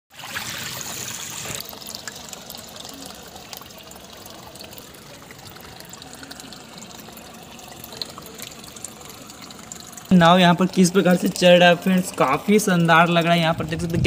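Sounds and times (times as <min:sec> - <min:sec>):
water churning and trickling: 0:00.1 - 0:14.0.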